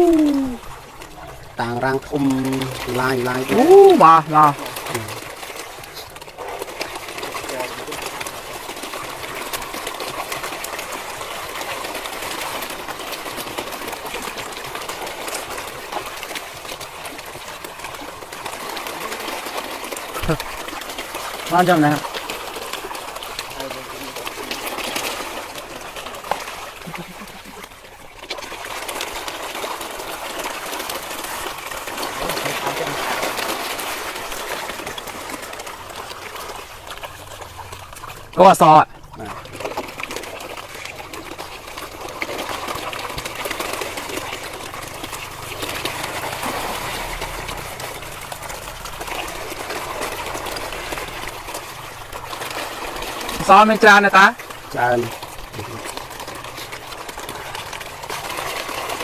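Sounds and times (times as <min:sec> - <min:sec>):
fish splashing at water surface: 0:00.0 - 0:59.0.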